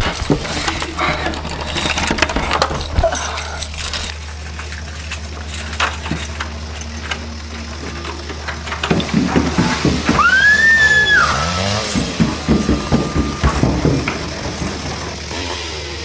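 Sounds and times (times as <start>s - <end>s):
rustling and clinking handling: 0.0s - 10.2s, 11.4s - 15.8s
low steady hum: 0.0s - 16.0s.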